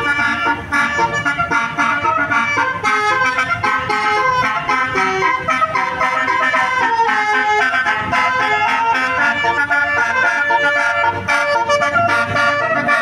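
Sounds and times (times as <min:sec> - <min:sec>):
bus musical horn playing tune: 0:00.0 - 0:13.0.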